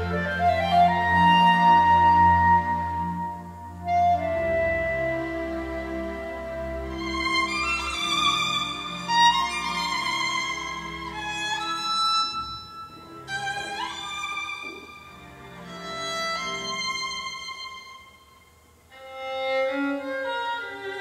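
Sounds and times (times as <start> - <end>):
soft low accompaniment: 0.0 - 21.0
solo violin melody: 0.0 - 21.0.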